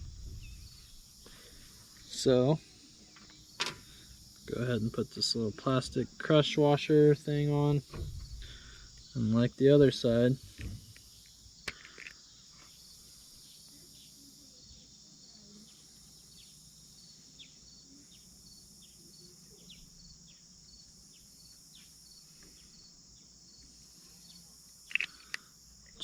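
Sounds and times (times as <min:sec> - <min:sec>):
cricket chirping: 0:00.0 - 0:26.0
high insect drone: 0:00.0 - 0:26.0.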